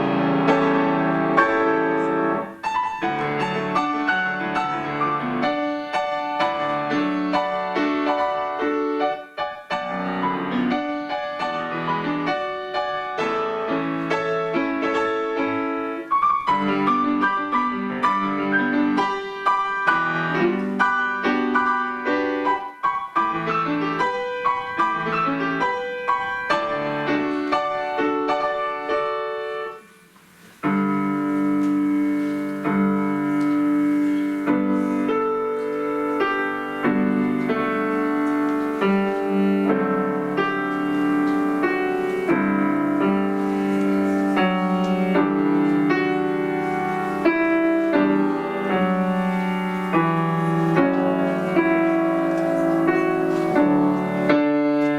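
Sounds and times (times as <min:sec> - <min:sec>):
piano playing: 0:00.0 - 0:54.9.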